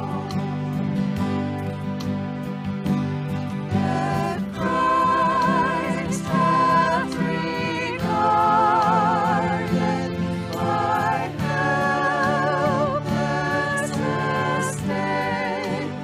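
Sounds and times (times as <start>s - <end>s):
worship singing with instruments: 0.0s - 1.5s, 3.7s - 16.0s.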